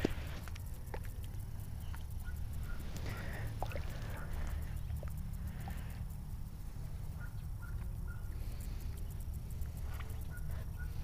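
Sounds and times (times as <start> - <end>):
steady low rumble: 0.0 - 11.0
faint bird calls: 1.6 - 11.0.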